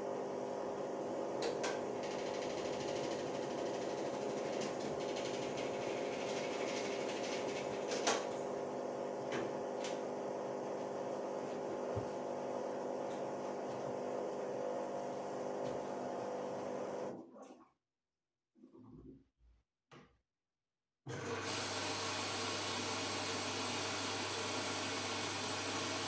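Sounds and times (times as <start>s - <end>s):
washing machine motor hum: 0.0s - 17.6s, 21.1s - 26.0s.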